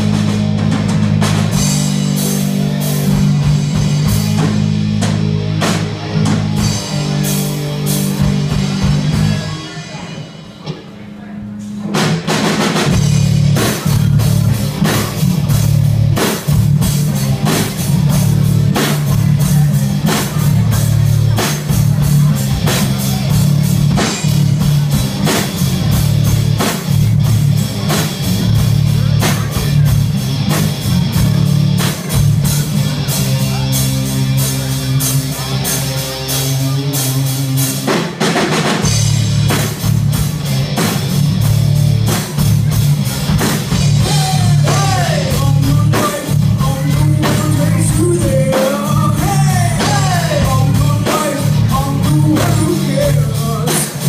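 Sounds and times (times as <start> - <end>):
bass guitar: 0.0 - 54.0
drum kit steady beat: 0.0 - 54.0
heavy electric guitars: 0.0 - 54.0.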